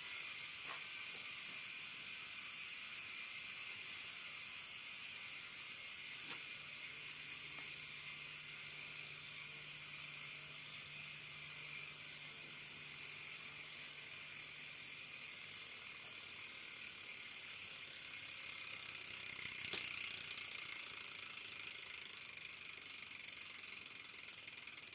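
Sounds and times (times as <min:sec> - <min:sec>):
bicycle freehub ratcheting buzz: 0:00.0 - 0:24.9.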